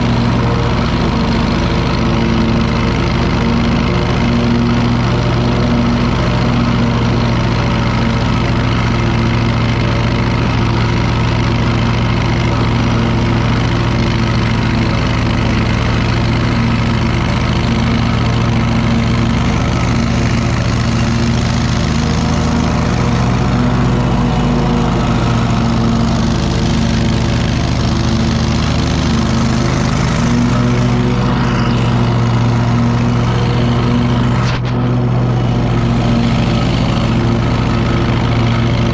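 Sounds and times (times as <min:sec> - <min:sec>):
mower engine humming: 0:00.0 - 0:38.9.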